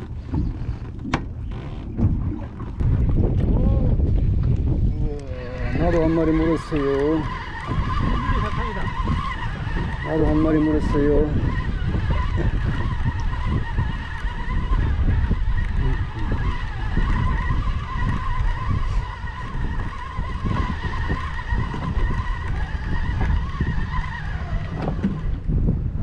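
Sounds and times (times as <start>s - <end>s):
wind rumble on microphone: 0.0s - 26.0s
fishing reel gears whining: 4.8s - 25.6s.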